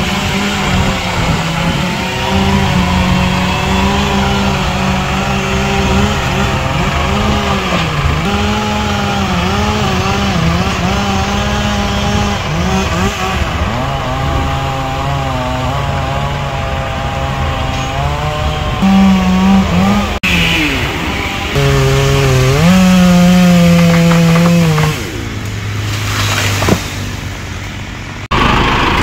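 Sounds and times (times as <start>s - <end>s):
chainsaw running: 0.0s - 29.0s
tractor diesel engine: 0.0s - 29.0s.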